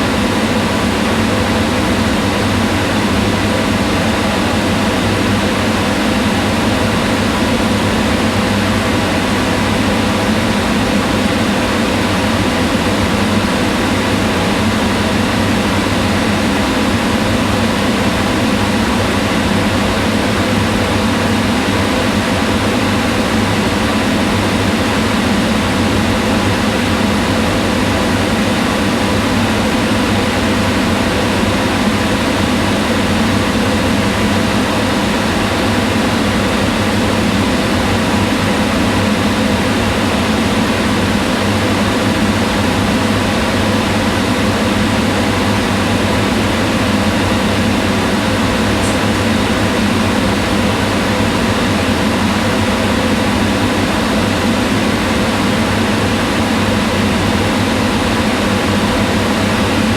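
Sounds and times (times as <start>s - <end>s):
range hood fan running: 0.0s - 59.9s.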